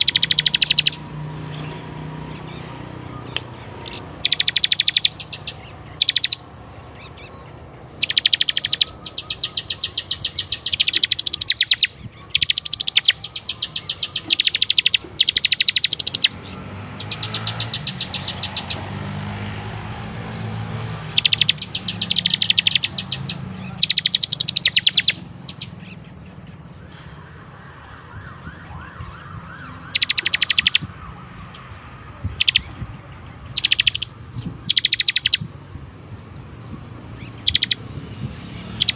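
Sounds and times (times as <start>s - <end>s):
bird chirping rapidly: 0.0s - 26.8s, 29.9s - 31.0s, 31.6s - 38.9s.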